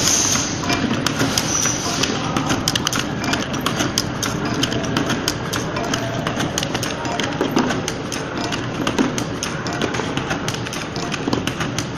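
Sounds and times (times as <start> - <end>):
machine running noise: 0.0 - 11.9.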